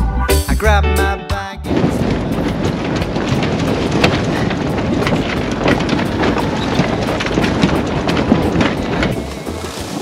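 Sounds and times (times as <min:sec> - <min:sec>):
strong wind buffeting microphone: 0:01.7 - 0:10.0.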